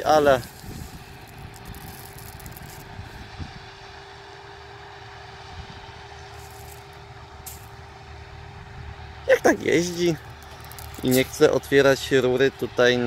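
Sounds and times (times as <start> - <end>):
diesel engine rumble: 0.0 - 13.0
faint steady whine: 0.0 - 13.0.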